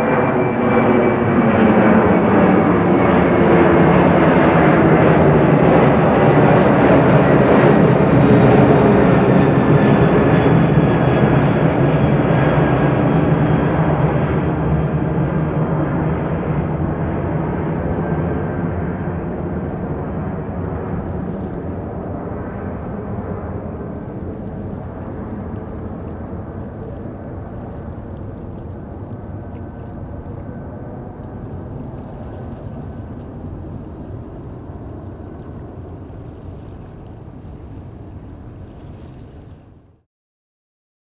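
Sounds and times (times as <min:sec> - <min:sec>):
jet engines rumbling: 0:00.0 - 0:40.0.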